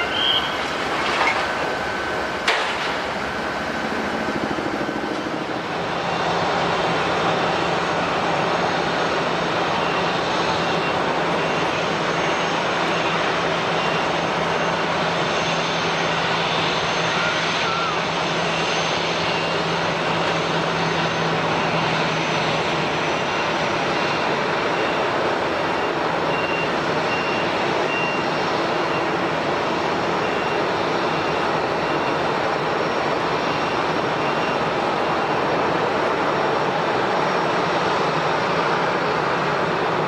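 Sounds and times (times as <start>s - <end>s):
jet engines rushing: 0.0s - 40.0s.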